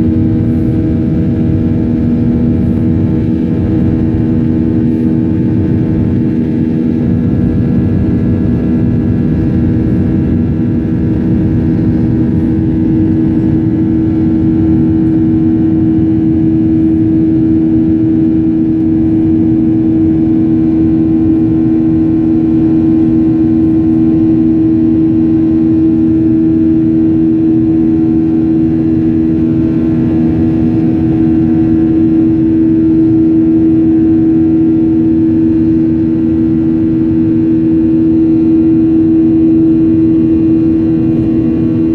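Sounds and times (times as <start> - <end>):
jet engines droning: 0.0 - 41.9.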